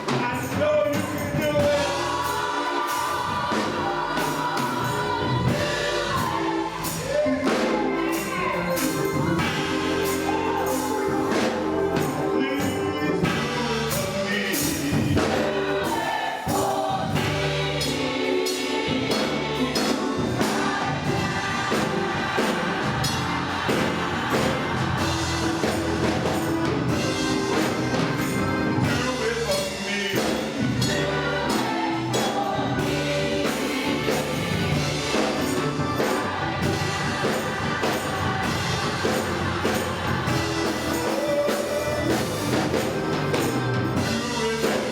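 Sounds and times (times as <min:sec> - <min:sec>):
choir singing: 0:00.0 - 0:44.9
drums and percussion: 0:00.0 - 0:44.9
live band playing: 0:00.0 - 0:44.9.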